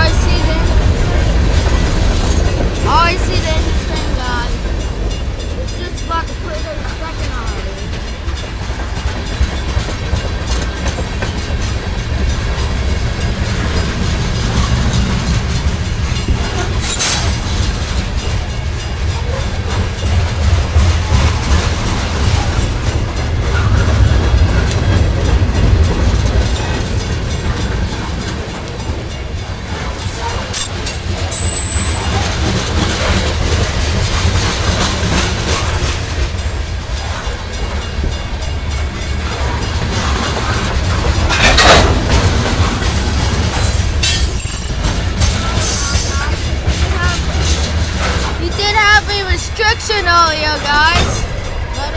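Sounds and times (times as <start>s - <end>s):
freight train low rumble: 0.0s - 51.9s
wheel clicks over rail joints: 6.0s - 48.4s.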